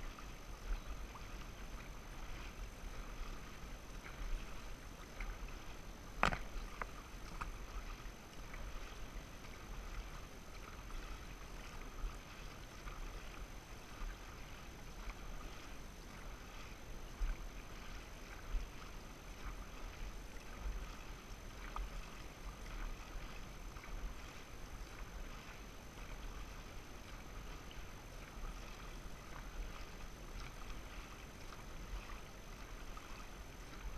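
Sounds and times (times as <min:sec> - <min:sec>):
paddles splashing: 0:00.0 - 0:33.9.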